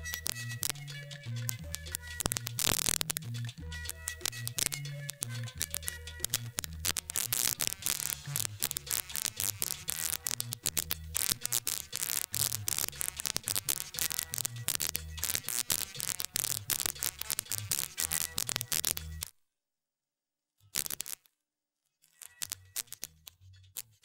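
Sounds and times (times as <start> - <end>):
music with pulsing bass beat: 0.0 - 19.2
record crackle and hiss: 0.0 - 19.3, 20.7 - 21.3, 22.1 - 23.2.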